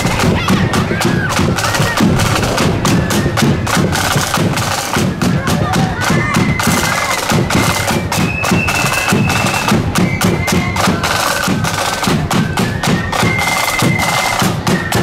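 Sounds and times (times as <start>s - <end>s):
bass drum beat: 0.0s - 13.1s
flutes playing melody: 0.0s - 15.0s
side drums beat: 0.0s - 15.0s.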